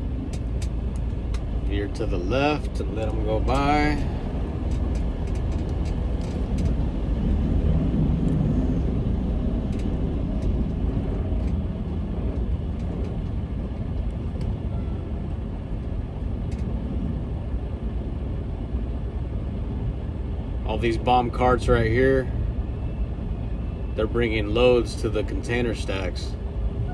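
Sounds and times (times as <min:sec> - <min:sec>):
diesel engine: 0:00.0 - 0:26.9
road rumble: 0:00.0 - 0:26.9.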